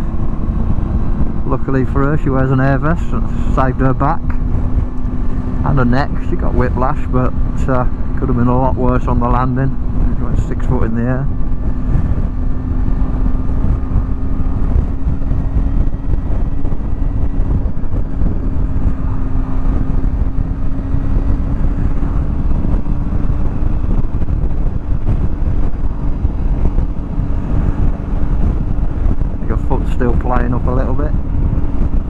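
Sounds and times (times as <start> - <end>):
motorcycle engine cruising: 0.0 - 32.0
wind buffeting microphone: 0.0 - 32.0.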